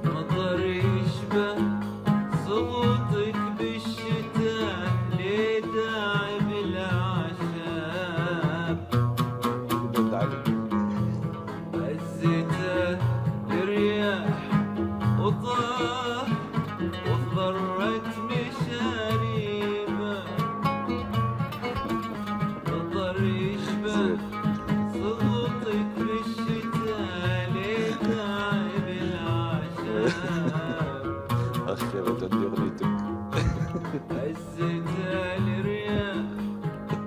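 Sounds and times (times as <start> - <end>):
man singing: 0.0 - 37.0
plucked string accompaniment: 0.0 - 37.0.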